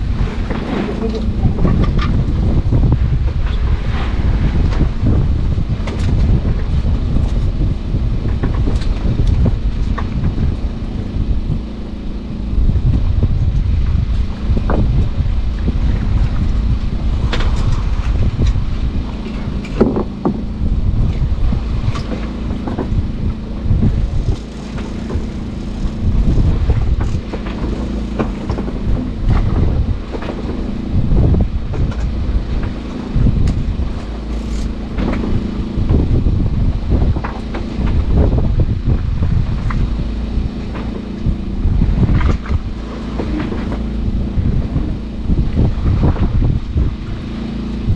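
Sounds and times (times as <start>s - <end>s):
boat engine humming: 0.0s - 47.9s
water splashes: 0.0s - 47.9s
wind on microphone: 0.0s - 47.9s.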